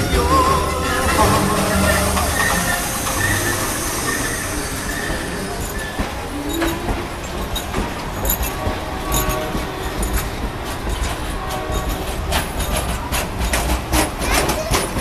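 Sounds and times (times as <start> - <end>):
train cars rumbling past: 0.0 - 15.0
wheel squeals: 0.0 - 15.0
wheels clicking over rail joints: 0.0 - 15.0.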